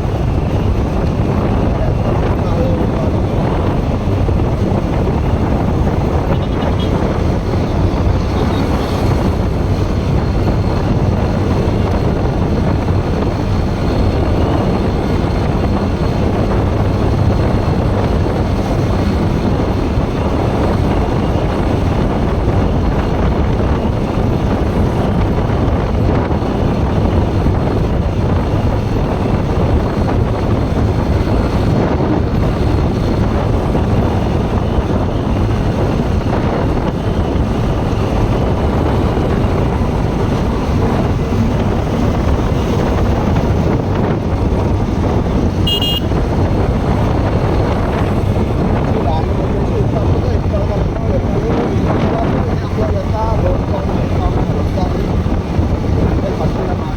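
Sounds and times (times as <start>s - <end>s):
motorcycle engine running: 0.0s - 56.9s
wind on microphone: 0.0s - 56.9s.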